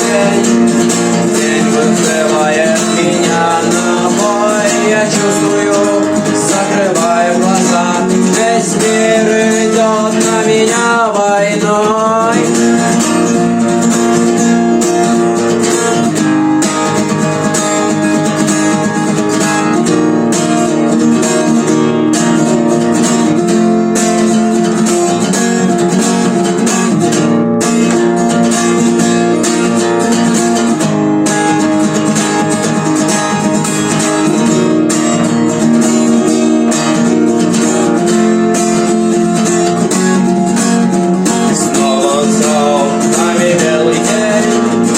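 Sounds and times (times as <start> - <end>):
guitar melody over strumming: 0.0 - 44.9.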